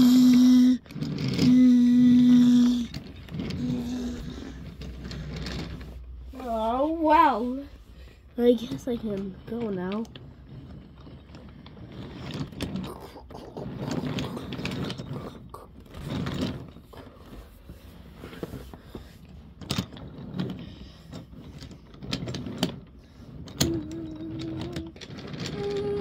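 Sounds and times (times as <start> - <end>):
toy train wheels clattering: 0.0 - 7.7, 8.4 - 26.0.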